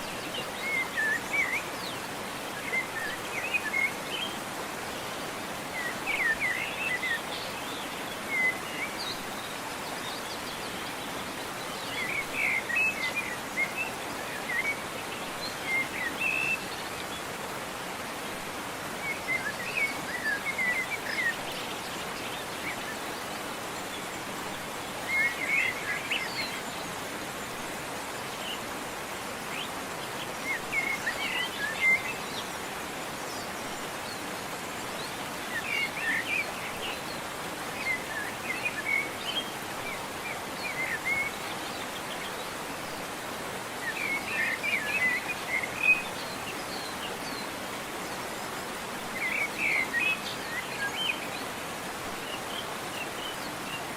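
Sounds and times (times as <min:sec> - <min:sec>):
songbird chirping: 0:00.0 - 0:53.9
waterfall rushing: 0:00.0 - 0:53.9.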